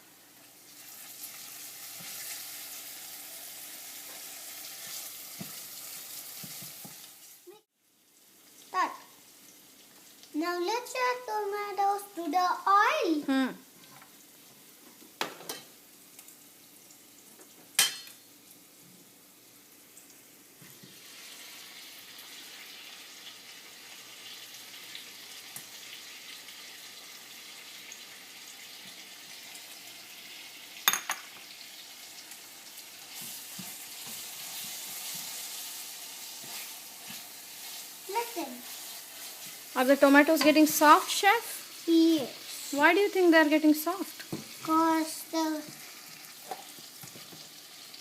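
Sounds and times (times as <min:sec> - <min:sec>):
tomatoes sizzling in hot oil: 0:00.0 - 0:48.0.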